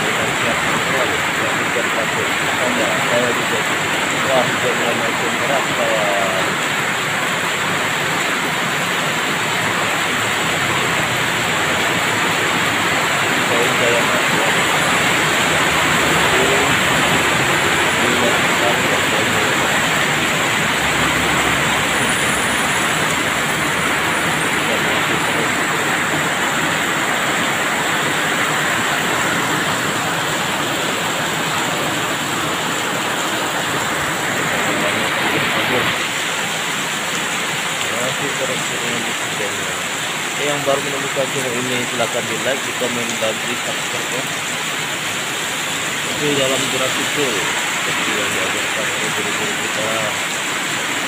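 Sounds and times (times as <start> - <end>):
heavy rain on road: 0.0 - 51.0.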